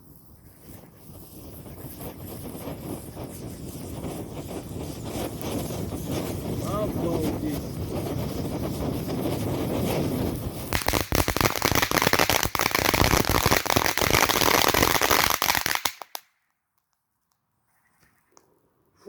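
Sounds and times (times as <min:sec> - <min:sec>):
firework fountain hissing: 0:00.0 - 0:16.2
firework crackling: 0:00.0 - 0:16.5.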